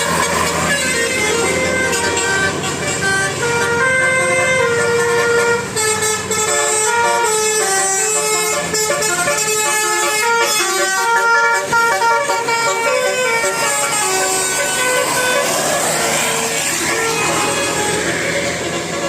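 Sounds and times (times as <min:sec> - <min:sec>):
bus engine running: 0:00.0 - 0:19.0
multi-tone bus horn tune: 0:00.0 - 0:19.0.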